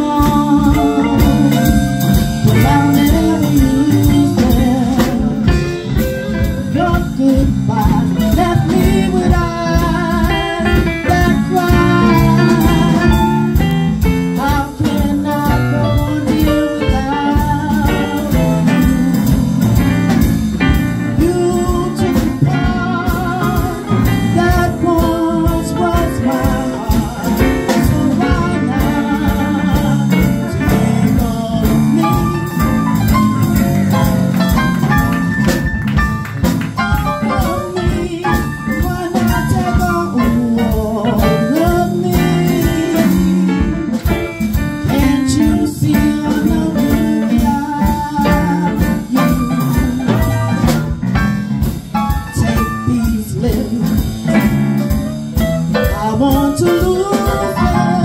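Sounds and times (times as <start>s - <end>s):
jazz accompaniment with drum beat: 0.0s - 58.0s
woman singing jazz ballad: 0.0s - 58.0s.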